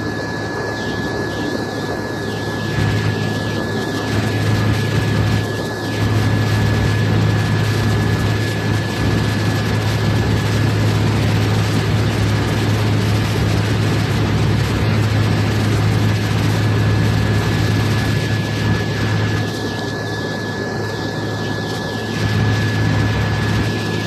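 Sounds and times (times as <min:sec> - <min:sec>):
boat diesel engine drone: 0:00.0 - 0:24.0
thin high whine: 0:00.0 - 0:24.0.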